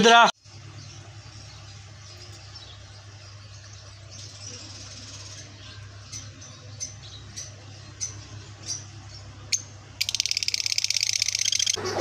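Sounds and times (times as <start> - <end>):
buzzing bird chatter: 0.4 - 12.0
lovebirds chirping: 0.4 - 12.0.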